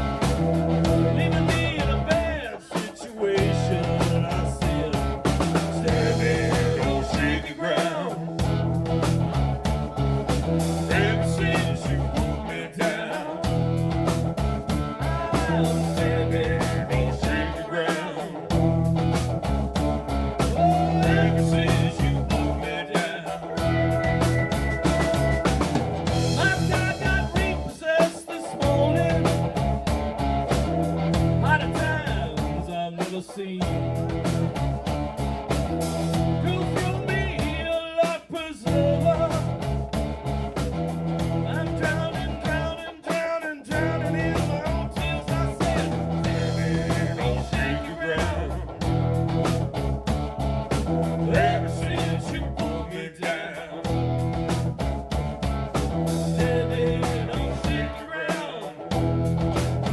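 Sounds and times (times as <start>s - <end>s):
electric guitar: 0.0s - 59.9s
live blues-rock band playing: 0.0s - 59.9s.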